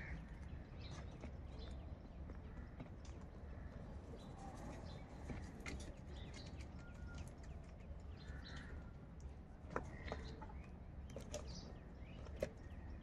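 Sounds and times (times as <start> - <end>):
crows pecking in plastic basin: 0.0 - 13.0
small birds chirping: 0.0 - 13.0.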